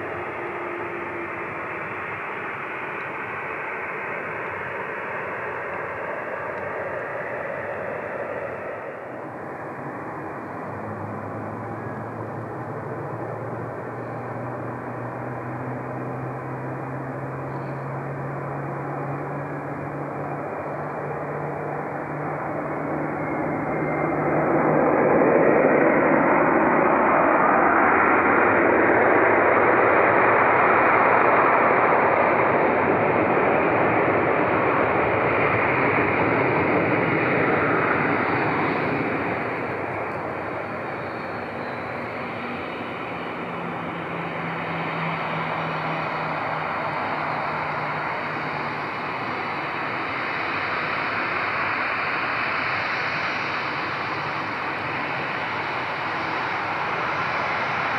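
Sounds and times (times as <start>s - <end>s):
jet airliner engines passing: 0.0s - 57.9s.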